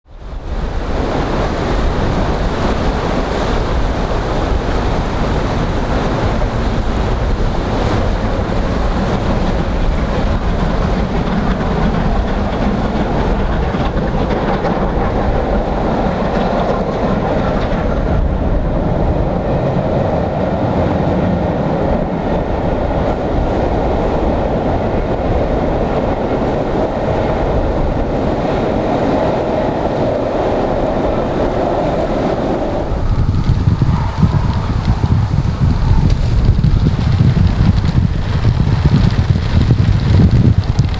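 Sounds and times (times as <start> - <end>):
strong wind buffeting microphone: 0.0 - 40.9
steam train running by: 0.2 - 38.4.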